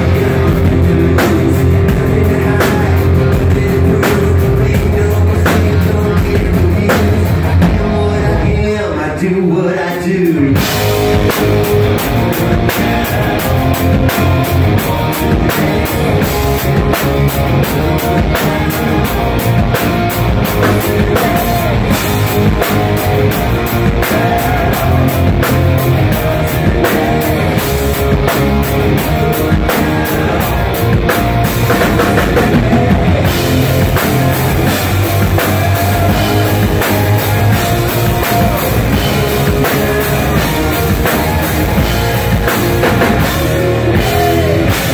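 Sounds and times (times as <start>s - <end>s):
drum kit beat: 0.0s - 8.8s, 10.3s - 44.9s
electric guitars: 0.0s - 9.0s, 10.4s - 44.9s.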